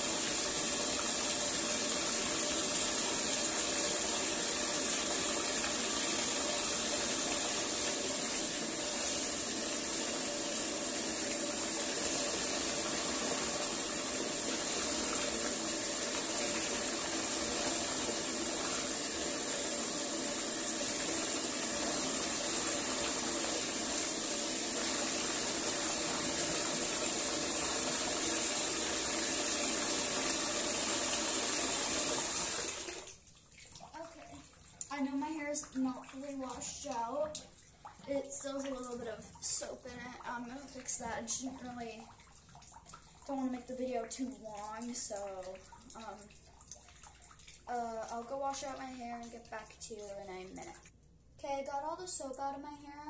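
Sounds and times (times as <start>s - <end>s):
water running into bathtub: 0.0s - 53.0s.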